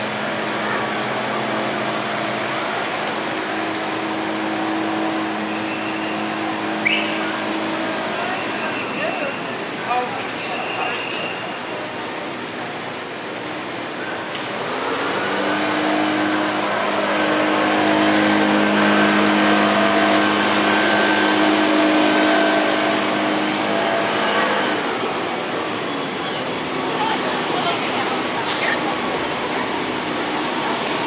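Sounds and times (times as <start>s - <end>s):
street crowd noise: 0.0s - 31.0s
vehicle engine droning: 0.0s - 31.0s.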